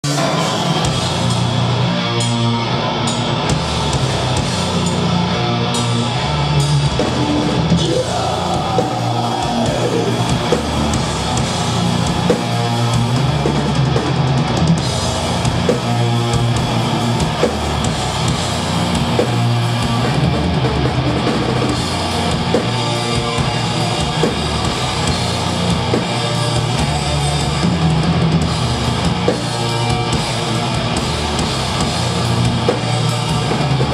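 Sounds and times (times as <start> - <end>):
death metal band playing live: 0.0 - 33.9.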